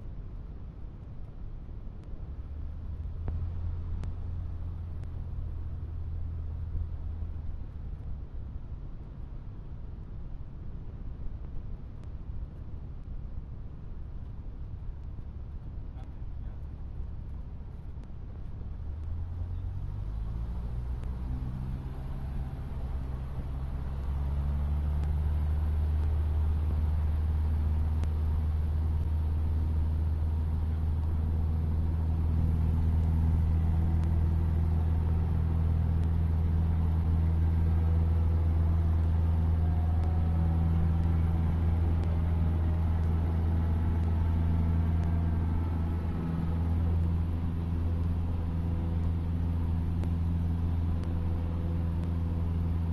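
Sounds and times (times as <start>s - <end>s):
propeller plane engine running: 0.0s - 52.9s.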